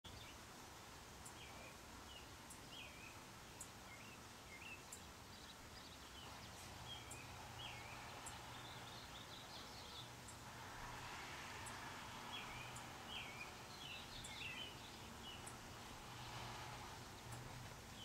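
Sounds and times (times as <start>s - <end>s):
faint bird chirps: 1.2s - 18.0s.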